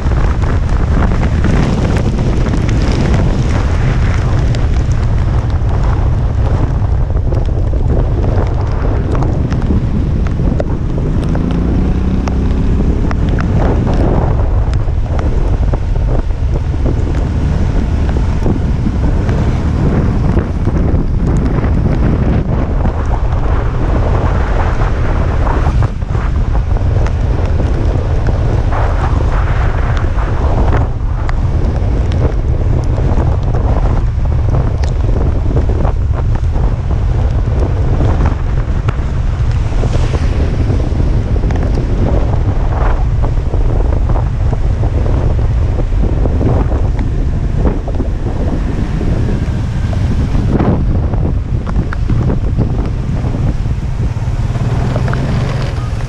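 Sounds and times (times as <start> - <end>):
rain: 0.0 - 56.0
wind buffeting microphone: 0.0 - 56.0.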